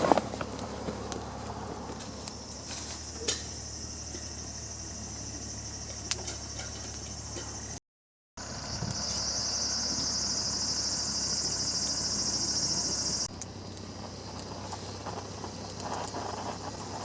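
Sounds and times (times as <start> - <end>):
crickets trilling: 0.2 - 7.8, 8.4 - 17.0.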